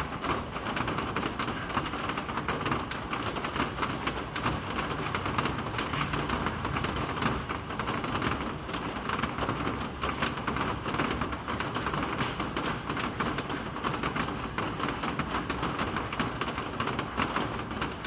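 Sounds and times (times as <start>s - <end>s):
rain falling: 0.0s - 18.0s
raindrops ticking on surfaces: 0.0s - 18.0s.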